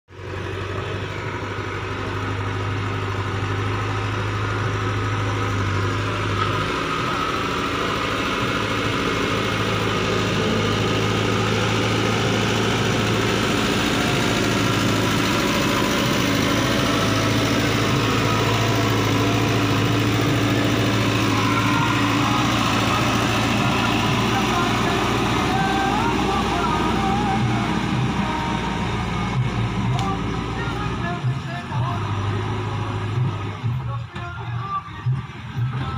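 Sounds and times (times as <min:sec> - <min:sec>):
diesel engine under load: 0:00.1 - 0:35.9.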